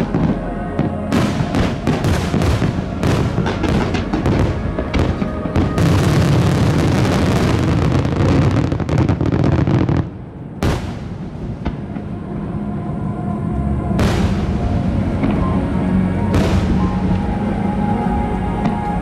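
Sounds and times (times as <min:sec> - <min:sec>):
festival music: 0:00.0 - 0:10.0, 0:10.6 - 0:19.0
fireworks booming and crackling: 0:00.0 - 0:12.6, 0:13.9 - 0:17.6.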